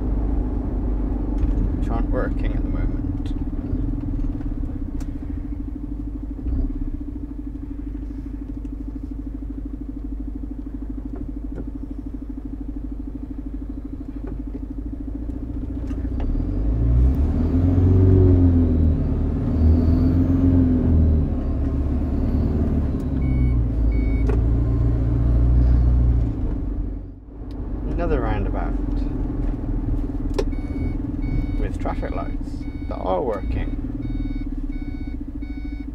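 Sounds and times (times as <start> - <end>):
lorry diesel engine accelerating: 0.0 - 35.9.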